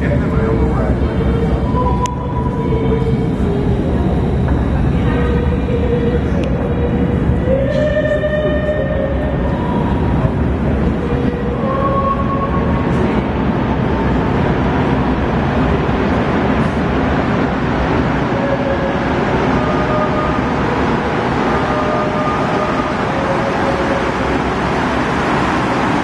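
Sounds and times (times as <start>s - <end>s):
train rumble in tunnel: 0.0s - 26.0s.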